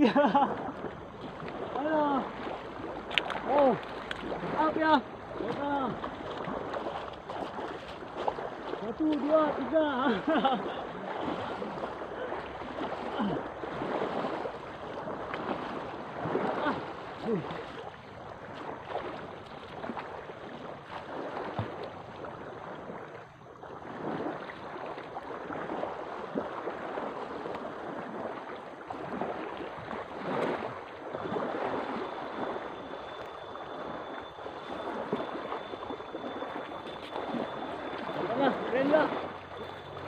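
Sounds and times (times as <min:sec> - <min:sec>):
waves lapping on stony shore: 0:00.0 - 0:40.0.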